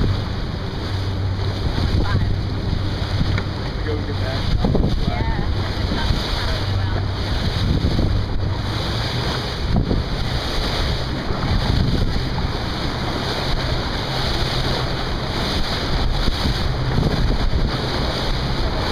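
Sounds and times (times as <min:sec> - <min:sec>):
low motor hum: 0:00.0 - 0:18.9
water rushing past hull: 0:00.0 - 0:18.9
wind buffeting microphone: 0:00.0 - 0:18.9.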